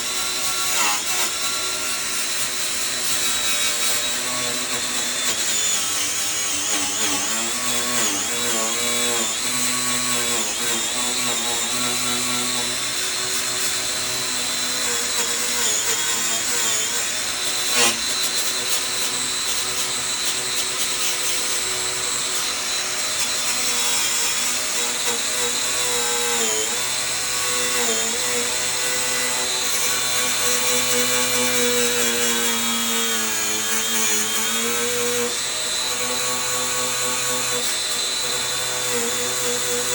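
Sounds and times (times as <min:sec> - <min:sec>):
power tool whining: 0:00.0 - 0:39.9.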